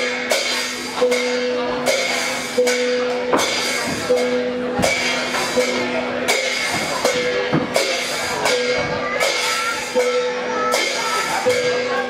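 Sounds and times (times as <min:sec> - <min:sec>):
gong struck and ringing: 0:00.0 - 0:12.0
hand cymbals struck: 0:00.0 - 0:12.0.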